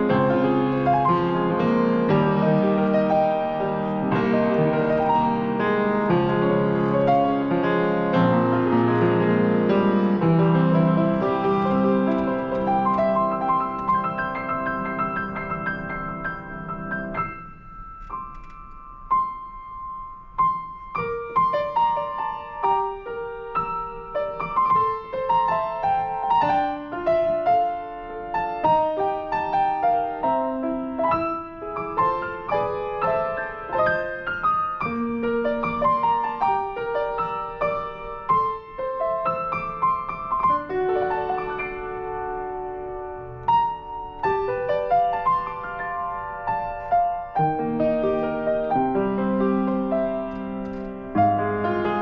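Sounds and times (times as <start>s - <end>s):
slow gentle piano piece: 0.0s - 52.0s.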